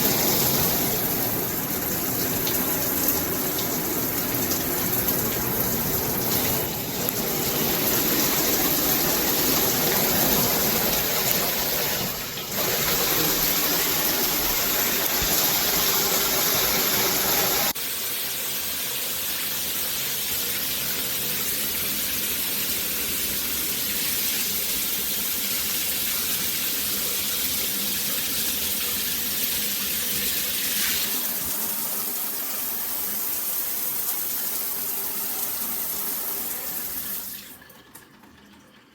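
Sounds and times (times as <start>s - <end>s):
water spraying from shower head: 0.0s - 37.3s.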